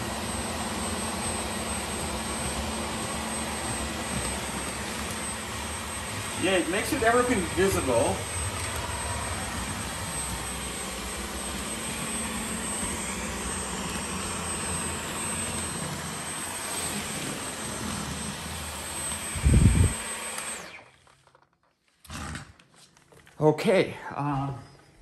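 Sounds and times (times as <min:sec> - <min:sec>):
stick vacuum running: 0:00.0 - 0:22.6.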